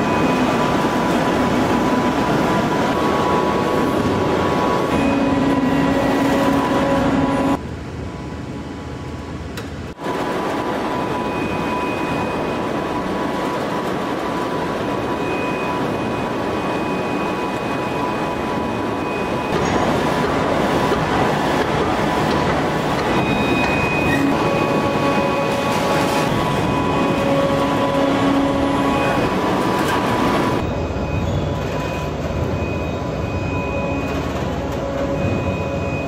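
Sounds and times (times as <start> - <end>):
forging press machinery noise: 0.0 - 7.6, 10.0 - 36.0.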